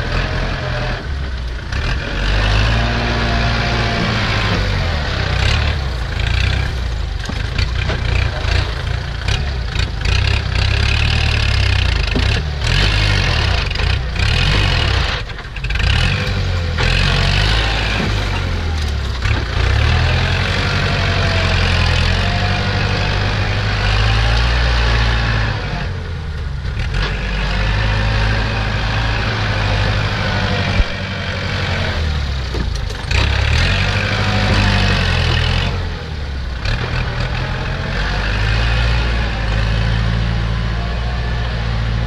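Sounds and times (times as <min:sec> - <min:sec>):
dump truck engine running: 0:00.0 - 0:42.0
tractor diesel engine: 0:00.0 - 0:42.0.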